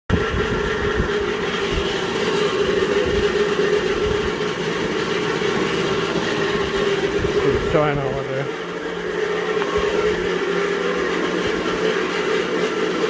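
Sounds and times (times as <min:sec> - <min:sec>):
electric fan humming: 0:00.1 - 0:13.0
low rumbling rattle: 0:00.1 - 0:13.0.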